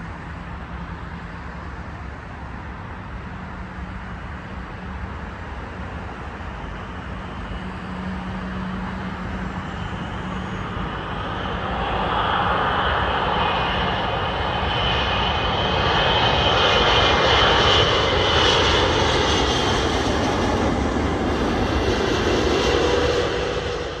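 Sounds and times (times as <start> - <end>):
high engine whine: 0.0 - 24.0
jet engines rumbling: 0.0 - 24.0.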